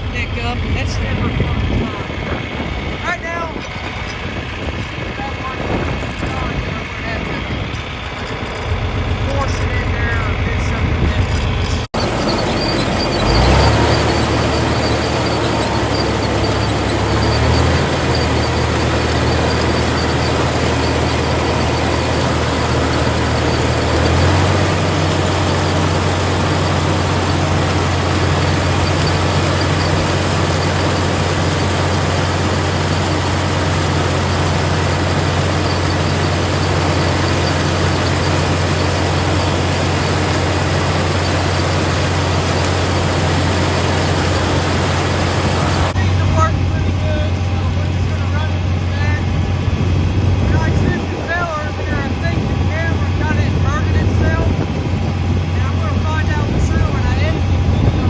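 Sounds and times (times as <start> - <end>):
corn picker mechanical noise: 0.0 - 58.0
tractor engine running: 0.0 - 58.0.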